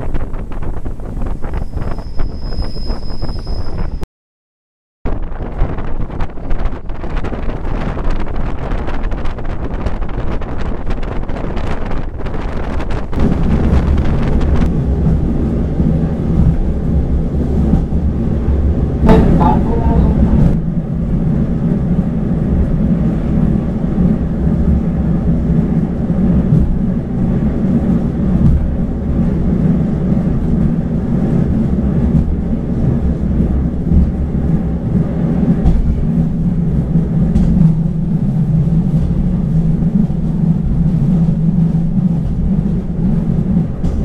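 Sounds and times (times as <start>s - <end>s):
train low rumble: 0.0s - 4.0s, 5.1s - 44.0s.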